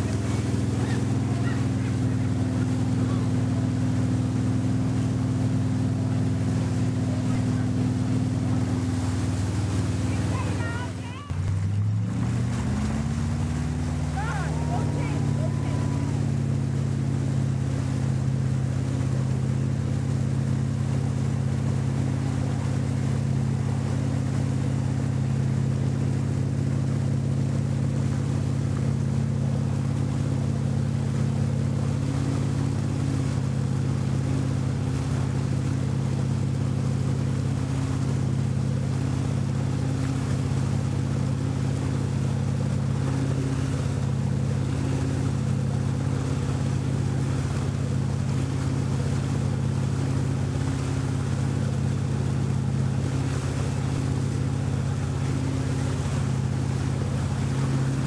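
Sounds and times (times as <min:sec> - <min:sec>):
motorboat engine running: 0:00.0 - 0:58.0
water rushing from hull and wake: 0:00.0 - 0:58.0.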